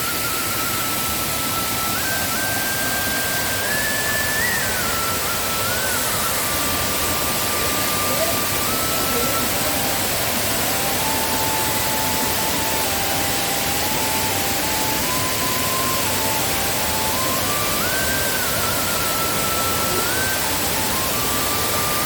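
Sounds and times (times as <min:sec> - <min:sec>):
waterfall roaring: 0:00.1 - 0:22.0
faint thin melody: 0:00.4 - 0:22.0.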